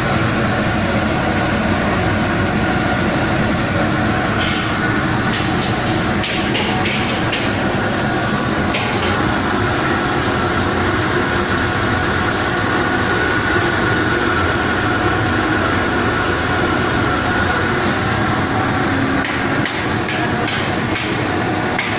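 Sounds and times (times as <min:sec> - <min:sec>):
machine running: 0:00.0 - 0:21.9.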